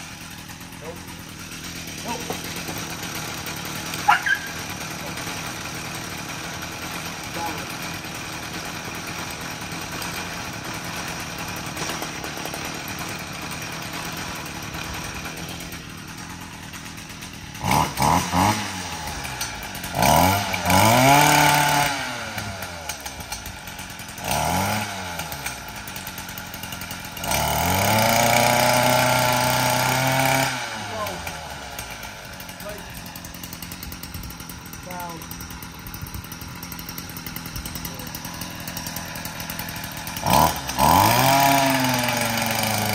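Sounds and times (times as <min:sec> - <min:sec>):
string trimmer engine revving: 0:00.0 - 0:42.9.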